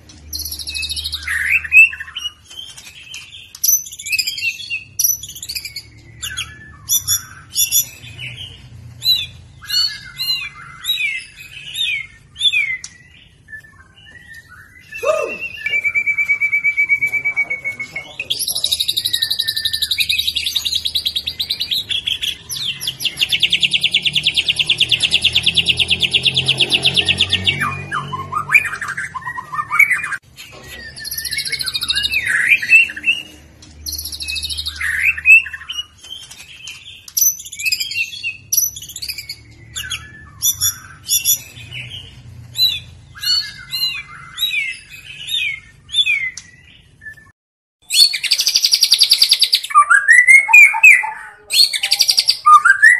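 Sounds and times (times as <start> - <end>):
songbird singing loudly: 0.3 - 2.5, 3.4 - 36.0, 36.9 - 52.9.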